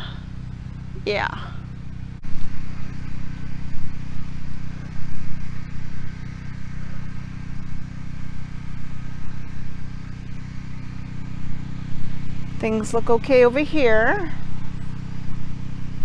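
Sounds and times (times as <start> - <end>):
generator engine humming: 0.0 - 16.0.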